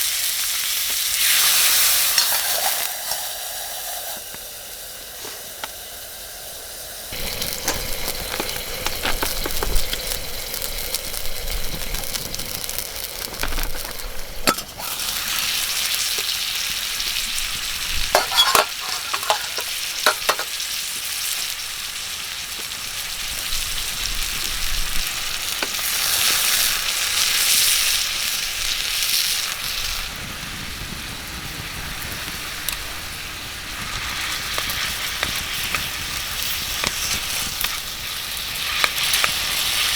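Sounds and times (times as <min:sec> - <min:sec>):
wood fire crackling and hissing: 0:00.0 - 0:39.9
fire popping: 0:07.1 - 0:39.9.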